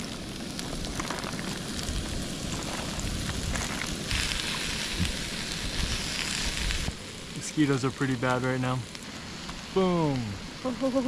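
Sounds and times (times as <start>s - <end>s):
beef sizzling in a hot pan: 0.0s - 11.0s.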